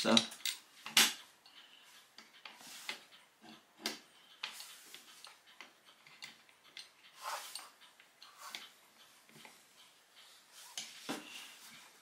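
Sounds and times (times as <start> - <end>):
metal parts clicking and tapping: 0.0 - 11.1.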